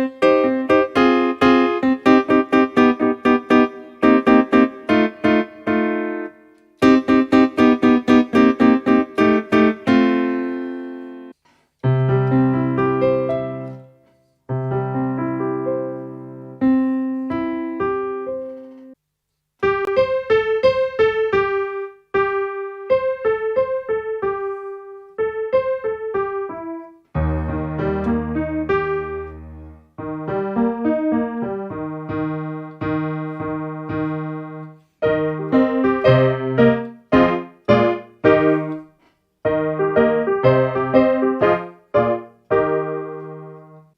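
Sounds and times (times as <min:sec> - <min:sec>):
keyboard piano chords and melody: 0:00.0 - 0:19.0, 0:19.6 - 0:43.9.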